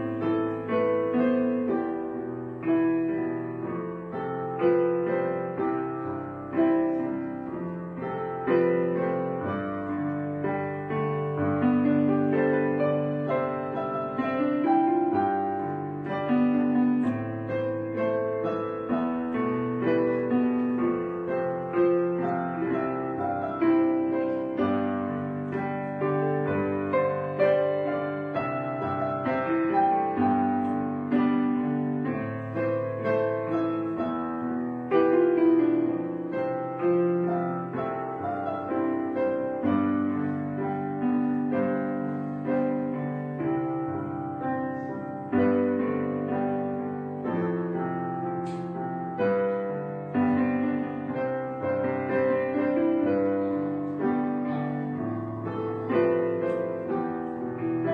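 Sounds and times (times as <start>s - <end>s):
soft piano music: 0.0s - 57.9s.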